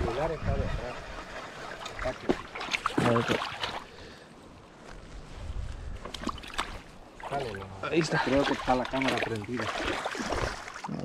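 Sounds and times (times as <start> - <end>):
rushing water: 0.0 - 4.2, 6.1 - 11.0.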